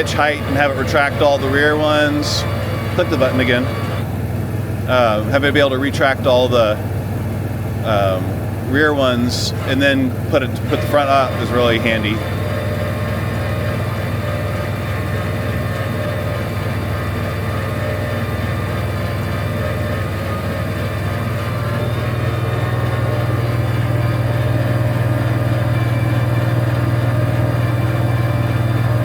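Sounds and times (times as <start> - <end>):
electric jacks raising camper: 0.0 - 29.0
generator humming: 0.0 - 29.0.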